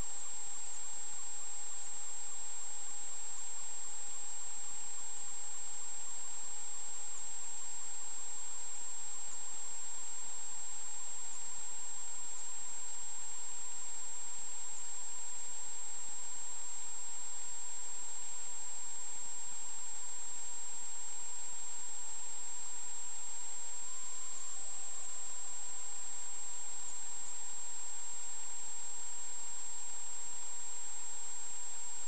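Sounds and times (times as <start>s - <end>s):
constant hiss: 0.0s - 32.0s
high-pitched electronic whine: 0.0s - 32.0s.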